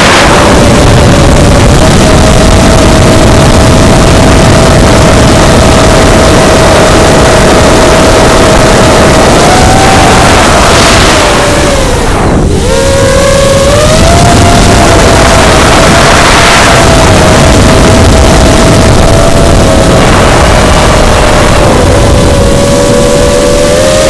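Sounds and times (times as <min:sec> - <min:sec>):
drone motors whining: 0:00.0 - 0:24.0
wind rushing on microphone: 0:00.0 - 0:24.0.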